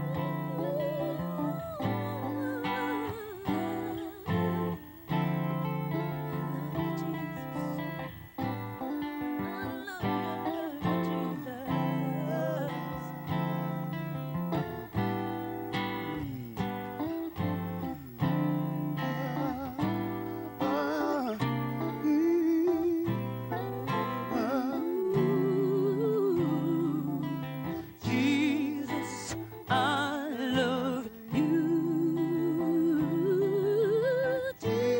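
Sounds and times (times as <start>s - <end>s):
guitar chords: 0.0s - 34.9s.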